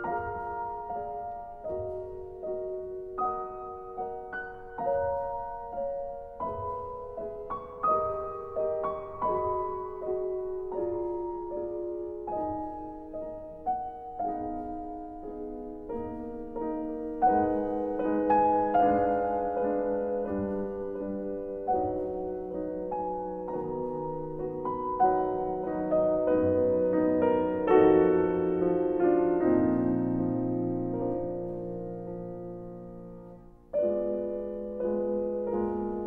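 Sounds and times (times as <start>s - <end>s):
slow gentle piano music: 0.0s - 36.0s.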